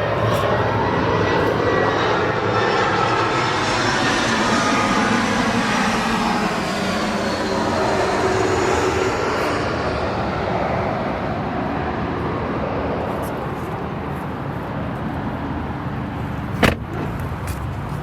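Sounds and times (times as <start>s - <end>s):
road and tyre noise: 0.0s - 18.0s.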